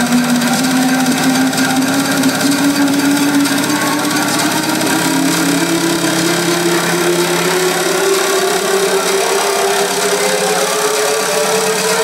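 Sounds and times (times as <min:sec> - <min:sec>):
electro house music: 0:00.0 - 0:12.0.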